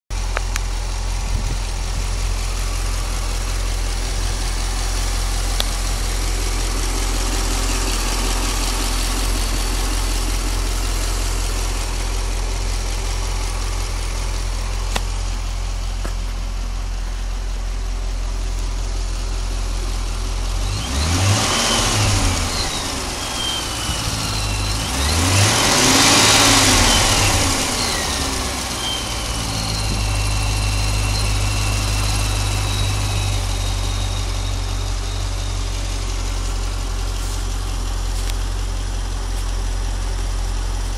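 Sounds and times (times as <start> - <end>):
car engine idling: 0.1 - 40.9
car engine revving: 0.1 - 40.9.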